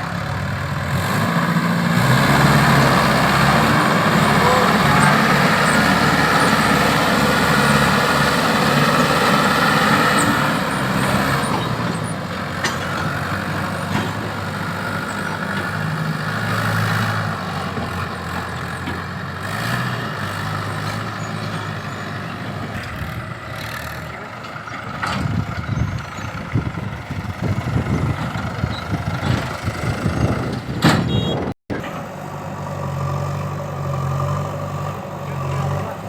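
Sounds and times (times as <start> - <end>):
heavy diesel machinery engine: 0.0 - 36.0.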